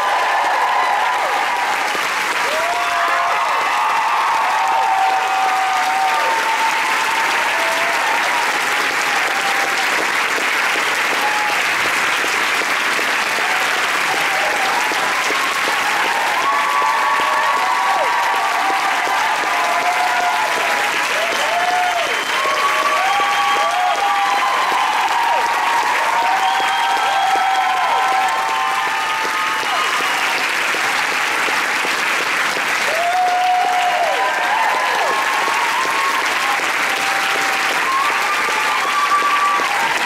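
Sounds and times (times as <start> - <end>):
voices cheering and whooping: 0.0 - 10.0, 13.3 - 30.5, 32.8 - 40.0
audience applauding: 0.0 - 40.0.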